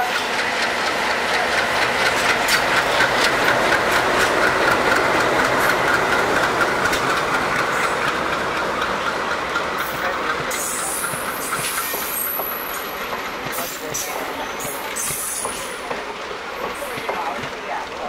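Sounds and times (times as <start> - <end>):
diesel locomotive engines: 0.0 - 18.0
wheels clicking over rail joints: 0.0 - 18.0.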